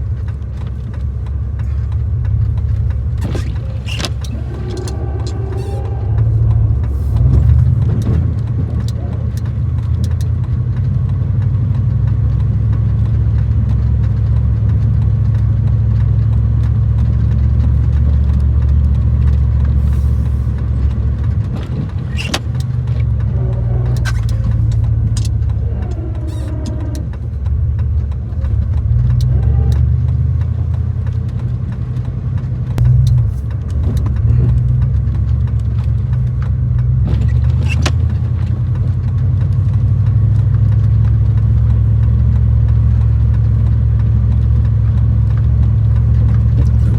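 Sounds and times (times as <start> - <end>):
sharp clicks and knocks: 0.0 - 46.9
truck engine droning: 0.0 - 46.9.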